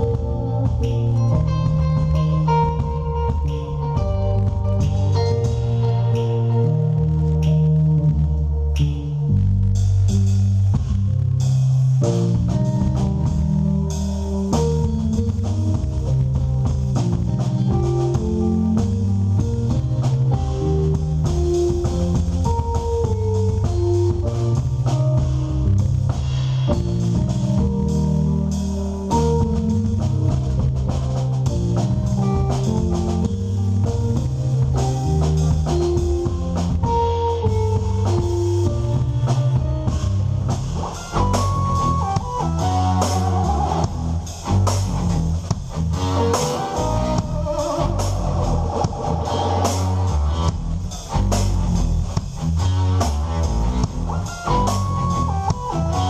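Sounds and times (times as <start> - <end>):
drum kit beat: 0.0 - 56.0
electric guitar: 0.0 - 56.0
keyboards: 0.0 - 56.0
low bass line: 0.0 - 56.0.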